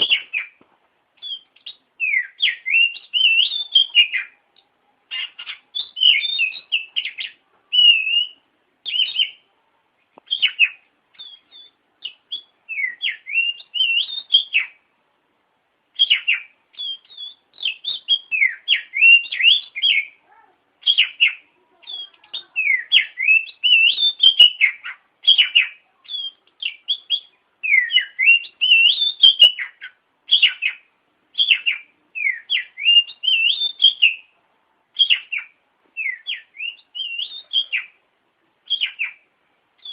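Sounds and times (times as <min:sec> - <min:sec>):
bird singing whistles and chirps: 0:00.0 - 0:00.6, 0:01.2 - 0:04.4, 0:05.1 - 0:09.4, 0:10.2 - 0:14.8, 0:16.0 - 0:20.2, 0:20.8 - 0:34.4, 0:35.0 - 0:38.0, 0:38.6 - 0:39.9.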